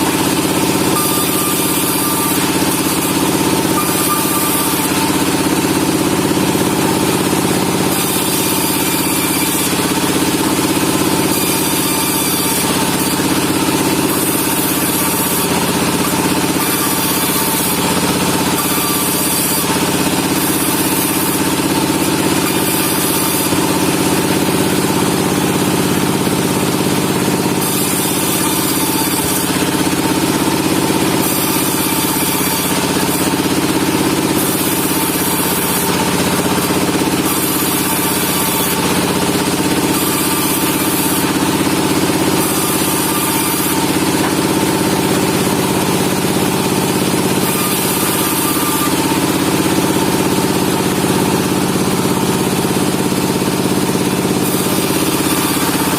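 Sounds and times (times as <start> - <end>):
sawmill machinery droning: 0.0 - 55.9.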